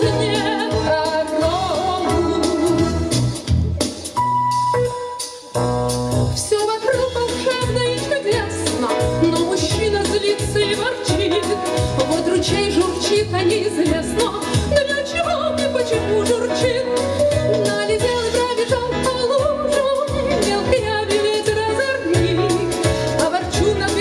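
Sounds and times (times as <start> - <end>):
women singing wordless melody: 0.0 - 3.1, 6.5 - 24.0
instrumental accompaniment with bass beat: 0.0 - 24.0.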